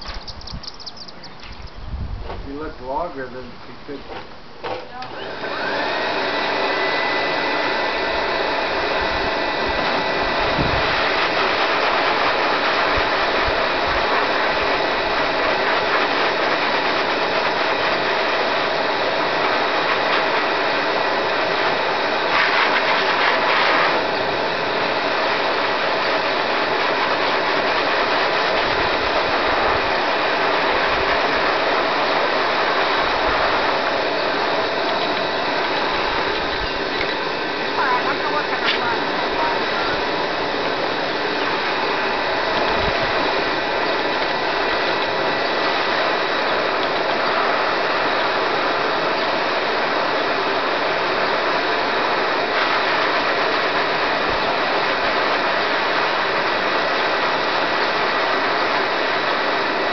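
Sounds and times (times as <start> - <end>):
dog dryer blowing: 4.2 - 59.9.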